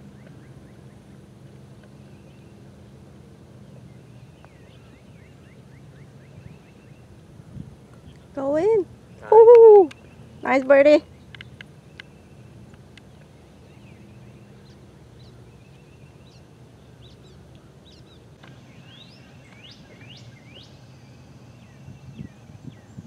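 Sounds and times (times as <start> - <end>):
low background hum: 0.0 - 23.0
songbirds chirping: 0.0 - 23.0.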